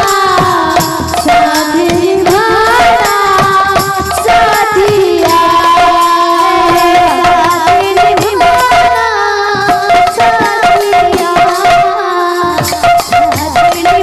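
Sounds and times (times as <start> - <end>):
barrel drums beaten fast: 0.0 - 14.0
woman singing: 0.0 - 14.0.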